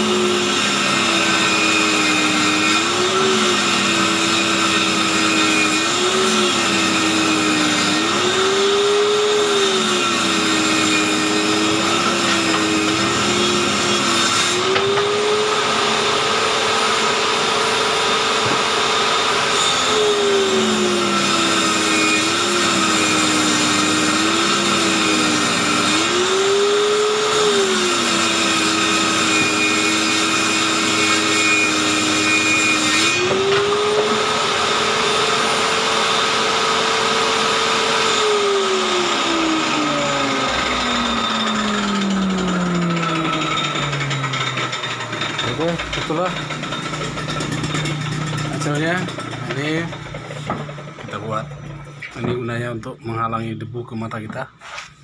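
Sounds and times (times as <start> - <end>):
circular saw cutting wood: 0.0 - 55.0.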